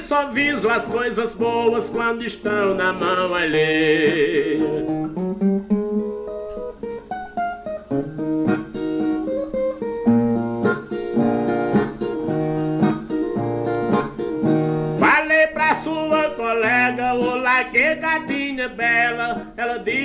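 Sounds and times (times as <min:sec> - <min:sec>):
plucked guitar melody: 0:00.0 - 0:20.0.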